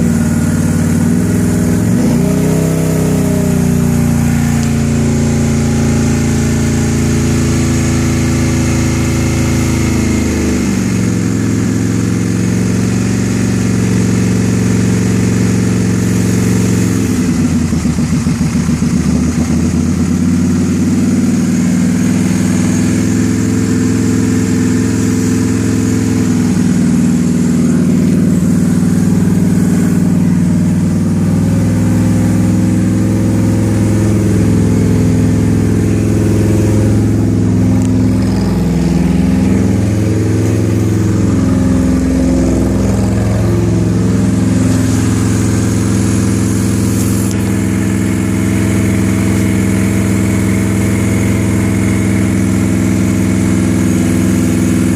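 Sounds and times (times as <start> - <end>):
vehicle engine idling: 0.0 - 54.9.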